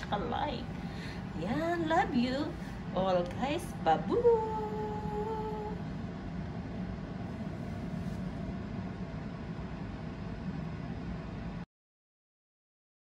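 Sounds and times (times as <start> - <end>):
low background rumble: 0.0 - 11.6.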